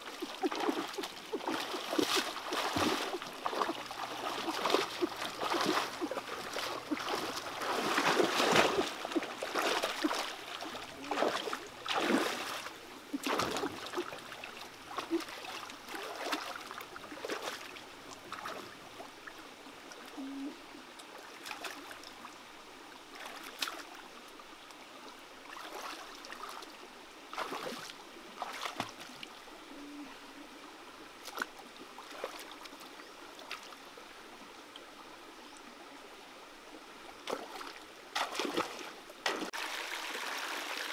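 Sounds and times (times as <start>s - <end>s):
running water: 0.0s - 40.9s
water splashing and sloshing: 0.0s - 40.9s.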